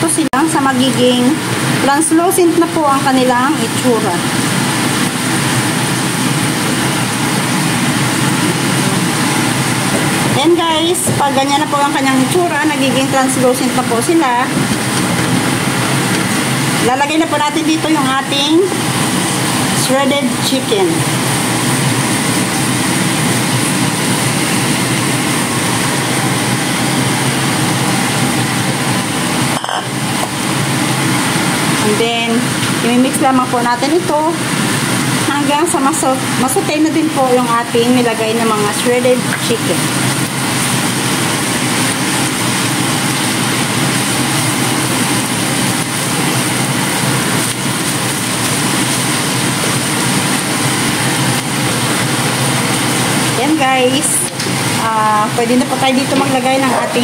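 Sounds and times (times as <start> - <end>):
food sizzling in a frying pan: 0.4 - 57.0.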